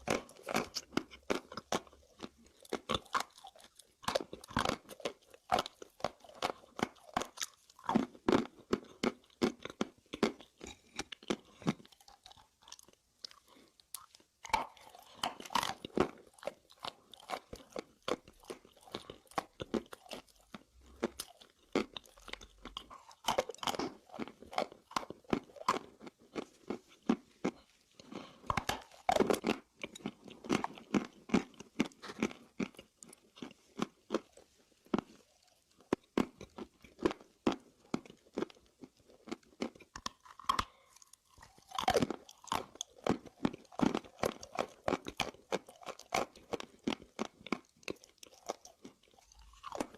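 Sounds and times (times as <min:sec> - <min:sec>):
person chewing crunchy sticks: 0:00.0 - 0:49.9.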